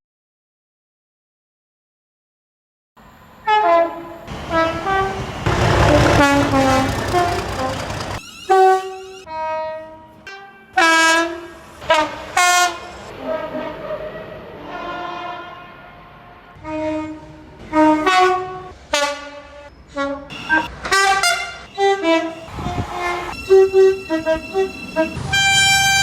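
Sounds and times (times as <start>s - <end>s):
moving train rumble: 3.0s - 9.3s, 10.8s - 26.0s
train horn blasts: 3.4s - 14.0s, 14.6s - 26.0s.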